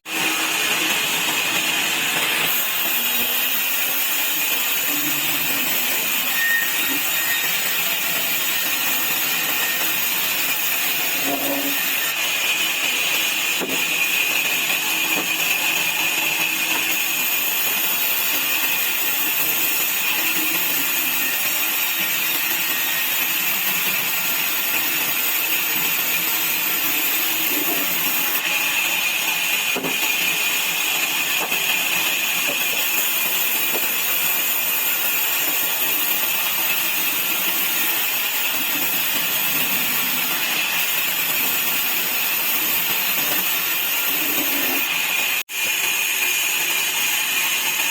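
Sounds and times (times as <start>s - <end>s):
saw cutting wood: 0.0s - 47.9s.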